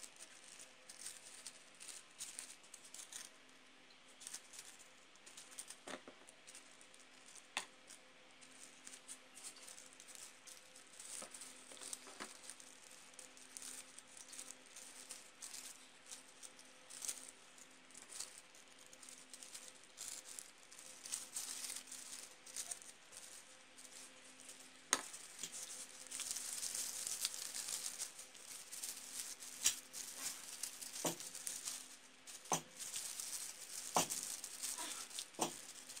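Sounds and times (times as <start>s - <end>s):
tissue paper rustling and crinkling: 0.0s - 3.6s, 4.2s - 36.0s.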